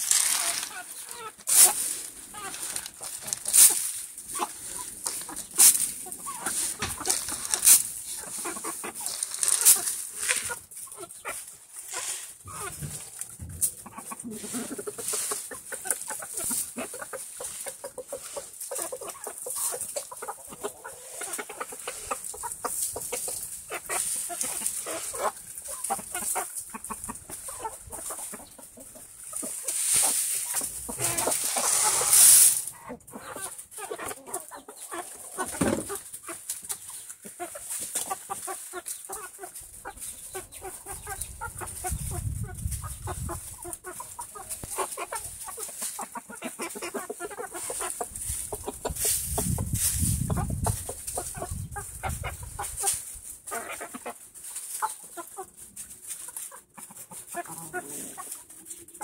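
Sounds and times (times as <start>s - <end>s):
rustling wood chips: 0.0s - 59.0s
chickens clucking softly: 0.3s - 59.0s.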